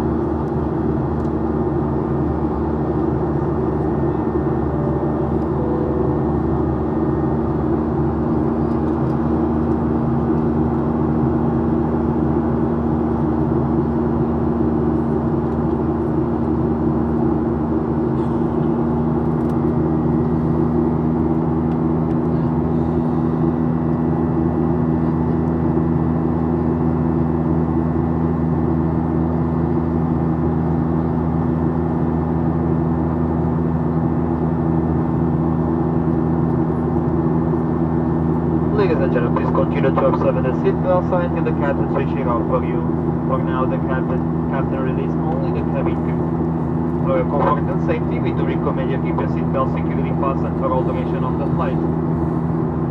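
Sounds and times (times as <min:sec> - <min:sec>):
jet engines droning: 0:00.0 - 0:52.9.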